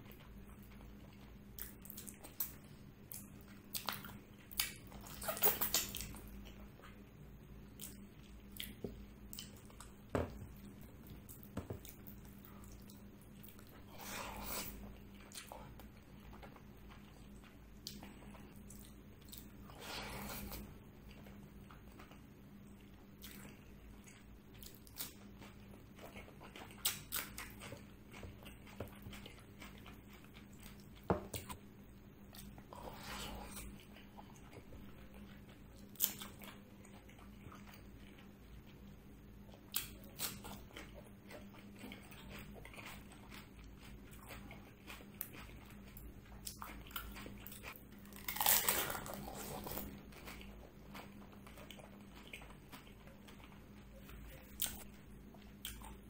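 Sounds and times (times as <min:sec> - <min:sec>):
close chewing with crunchy bites: 0:00.0 - 0:56.0.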